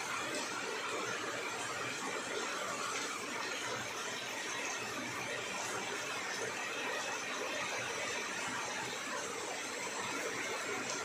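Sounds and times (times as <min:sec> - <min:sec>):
rain falling on leaves: 0:00.0 - 0:11.0.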